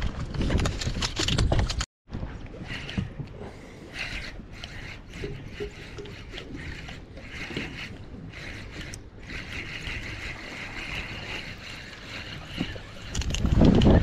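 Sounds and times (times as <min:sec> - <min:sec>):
fishing reel gears whirring: 0:02.6 - 0:14.0.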